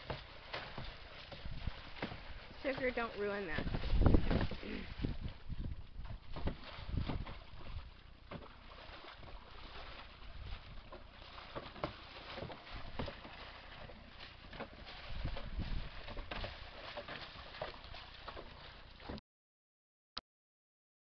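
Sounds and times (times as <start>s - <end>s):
hoof splashing water in trough: 0.0s - 19.2s.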